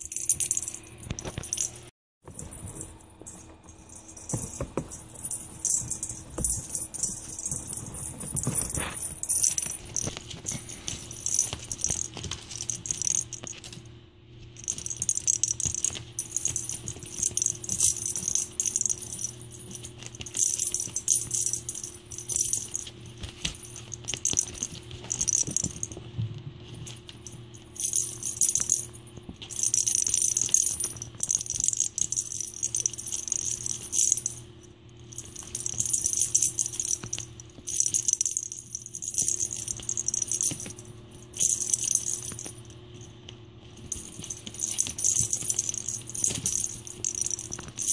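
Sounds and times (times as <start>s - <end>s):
bell jingling in toy ball: 0.0s - 13.8s, 14.6s - 47.9s
faint steady hum: 0.0s - 47.9s.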